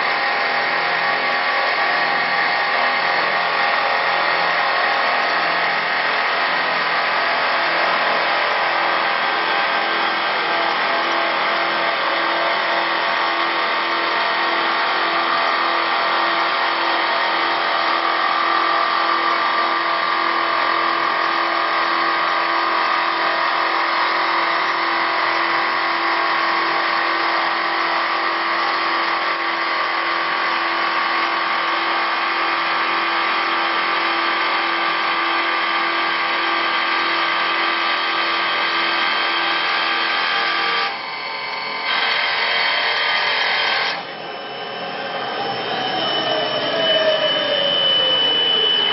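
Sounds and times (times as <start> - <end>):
machine whine: 0.0 - 48.9
lathe cutting wood: 0.7 - 44.6.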